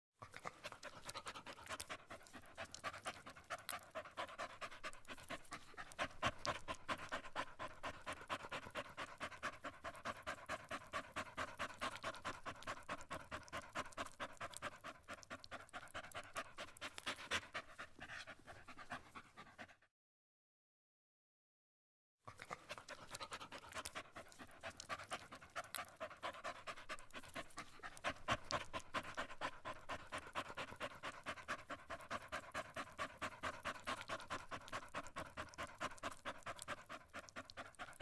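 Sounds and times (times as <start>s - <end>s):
dog panting rapidly: 0.2s - 19.9s, 22.3s - 38.0s.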